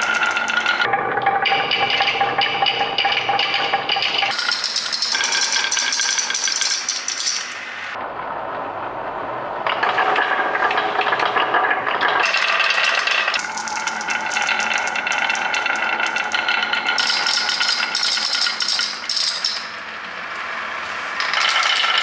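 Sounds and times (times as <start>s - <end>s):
marbles clattering down a marble run: 0.0s - 0.9s, 1.7s - 7.7s, 9.8s - 19.8s, 21.2s - 22.0s.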